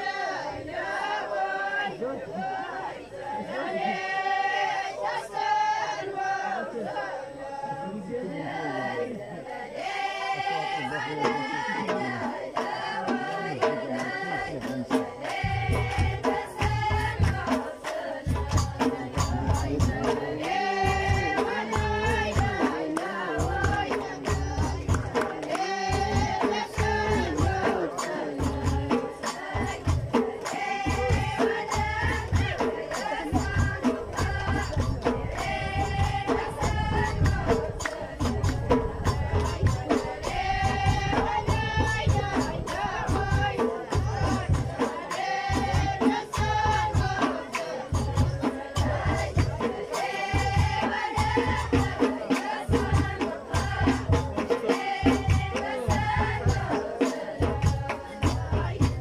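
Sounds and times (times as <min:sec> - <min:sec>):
voices singing in chorus: 0:00.0 - 0:59.0
deep drum beats: 0:10.8 - 0:59.0.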